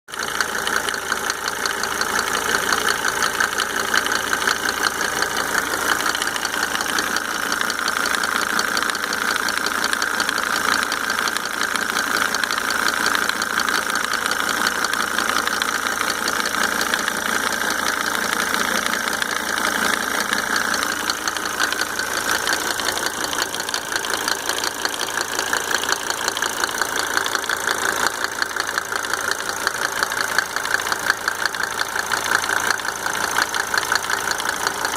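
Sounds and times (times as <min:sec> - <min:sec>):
diesel engine idling: 0:00.1 - 0:34.9
engine ticking: 0:00.1 - 0:34.9.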